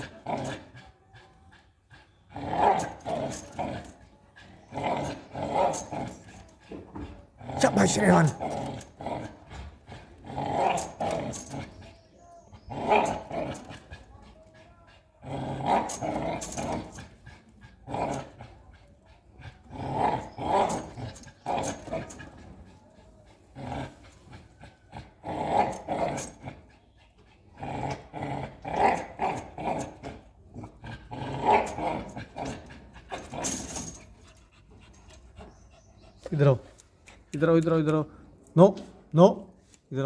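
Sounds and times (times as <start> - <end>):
dog growling: 0.0 - 11.9, 12.5 - 36.8.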